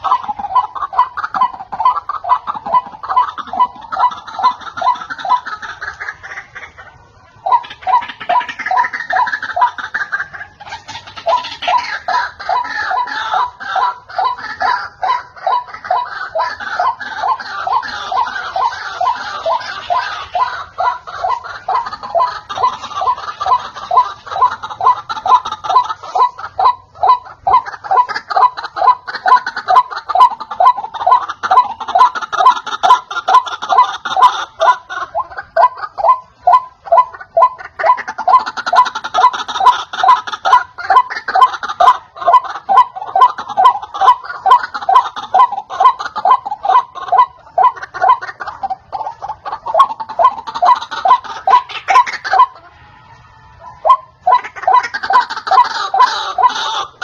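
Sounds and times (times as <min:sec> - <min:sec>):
waterhens calling: 0:00.0 - 0:57.0.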